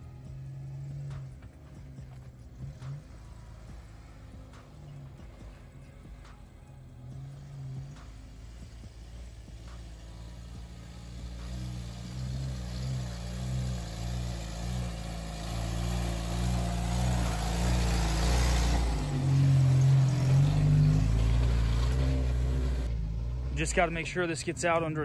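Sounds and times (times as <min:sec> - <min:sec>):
off-road vehicle engine passing: 0:00.0 - 0:25.0.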